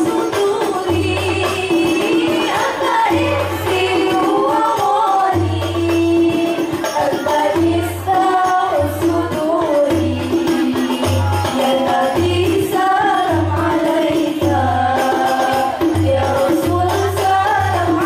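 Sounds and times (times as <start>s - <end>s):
frame drums beating: 0.0s - 18.0s
girls singing together: 0.0s - 18.0s.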